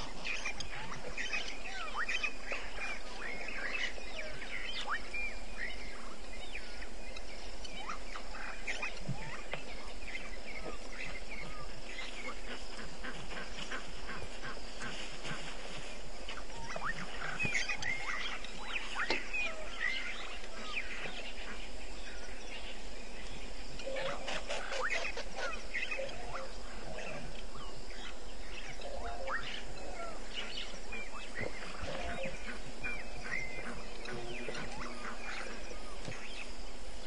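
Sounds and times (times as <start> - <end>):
lower animal calls: 0.0 - 15.6, 16.2 - 22.8, 23.8 - 36.6
bird and animal calls: 0.0 - 37.0
steady background hiss: 0.0 - 37.0.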